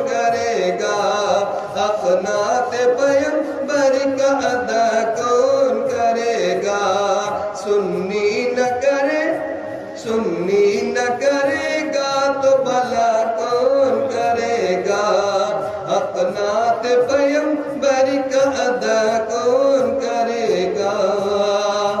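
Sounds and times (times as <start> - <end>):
man singing devotional song: 0.0 - 22.0.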